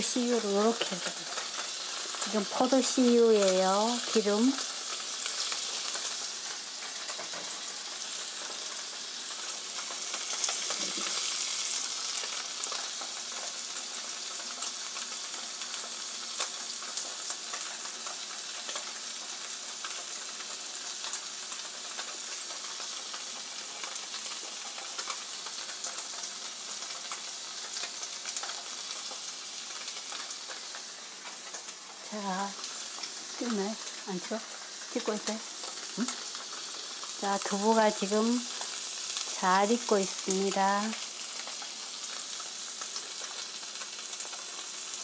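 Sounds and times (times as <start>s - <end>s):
tofu sizzling in oil: 0.0s - 45.0s.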